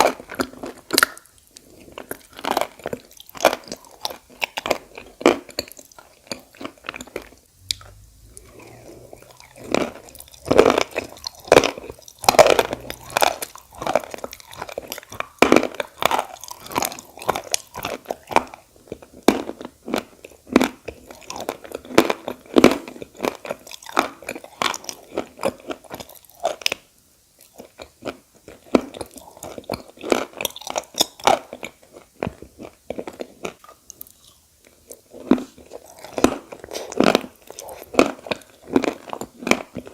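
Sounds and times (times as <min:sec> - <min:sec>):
crunchy chewing: 0:00.0 - 0:26.8, 0:27.4 - 0:39.9.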